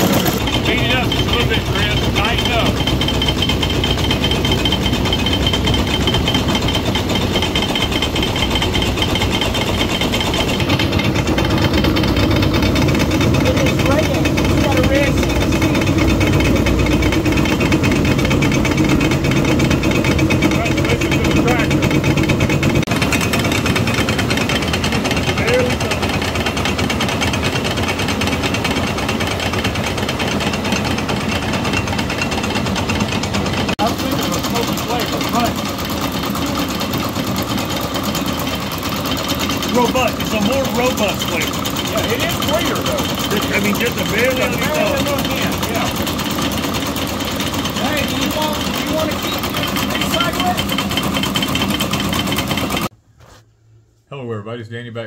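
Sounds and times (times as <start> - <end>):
grist mill rattling: 0.0 - 52.9
tractor engine running: 0.0 - 53.0.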